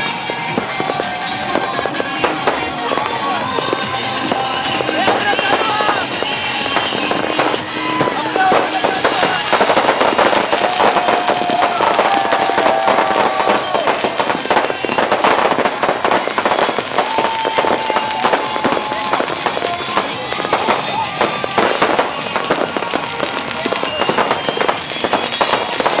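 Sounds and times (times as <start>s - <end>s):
fireworks and firecrackers banging: 0.0s - 26.0s.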